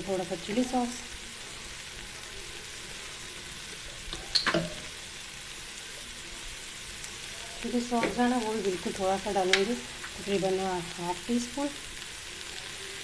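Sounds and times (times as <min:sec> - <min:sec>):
vegetables and egg sizzling: 0:00.0 - 0:13.0.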